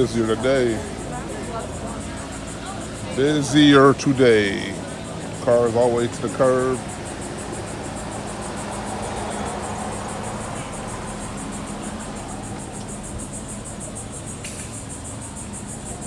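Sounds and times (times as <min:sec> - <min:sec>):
insects calling in pulses: 0:00.0 - 0:16.0
low hum of vehicles: 0:00.0 - 0:16.0.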